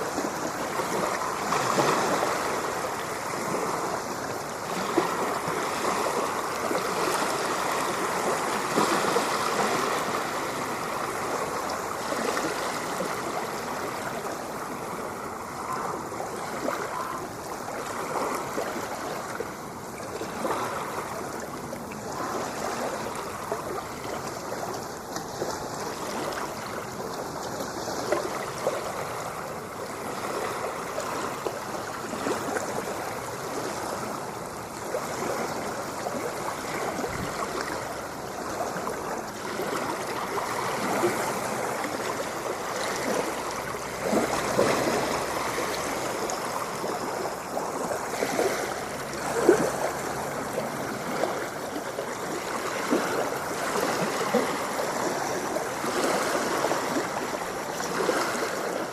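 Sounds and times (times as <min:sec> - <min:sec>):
water lapping and splashing: 0:00.0 - 0:58.9.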